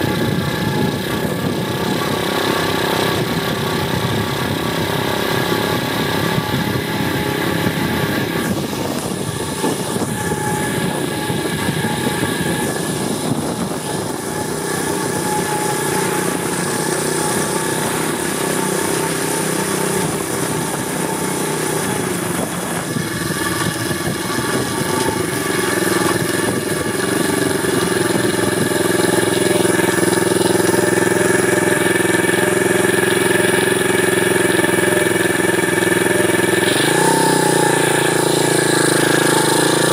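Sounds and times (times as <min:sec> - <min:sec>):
motorbike engine running: 0:00.0 - 0:39.9.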